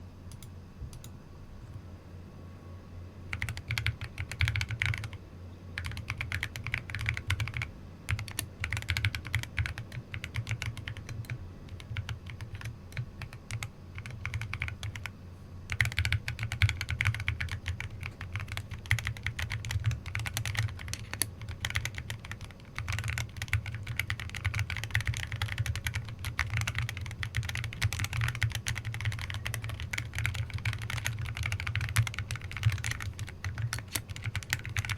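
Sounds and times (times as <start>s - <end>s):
mechanical keyboard typing: 3.3s - 5.2s, 5.8s - 15.1s, 15.7s - 34.9s.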